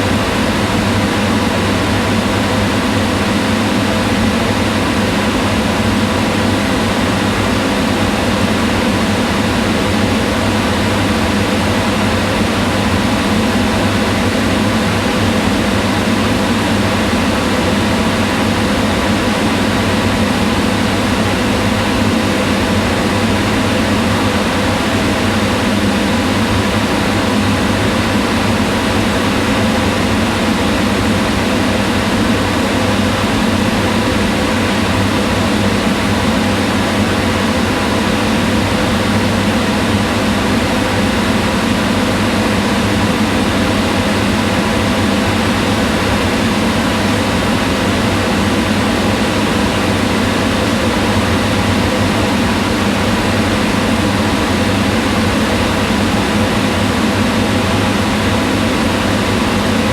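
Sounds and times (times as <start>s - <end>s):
range hood fan whirring: 0.0s - 59.9s.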